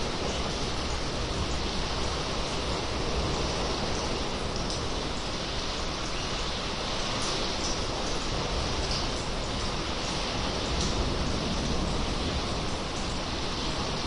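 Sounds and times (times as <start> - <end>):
sea water washing in cave: 0.0 - 14.0.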